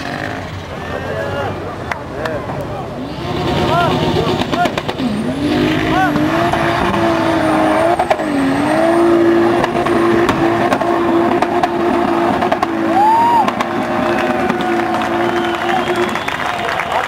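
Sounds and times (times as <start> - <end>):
engine at high revs: 0.0 - 0.8, 2.9 - 17.0.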